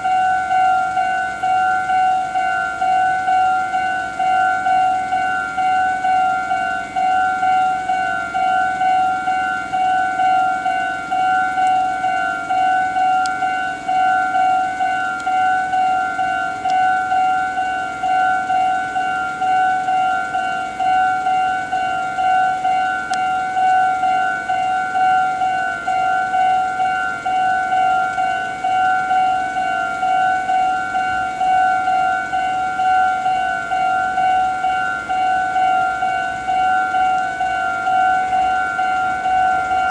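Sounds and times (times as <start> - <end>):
level crossing warning bell: 0.0 - 39.9.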